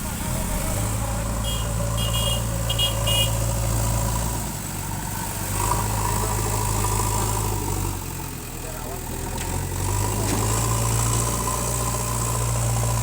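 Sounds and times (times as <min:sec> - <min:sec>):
heavy machinery diesel engine: 0:00.0 - 0:13.0.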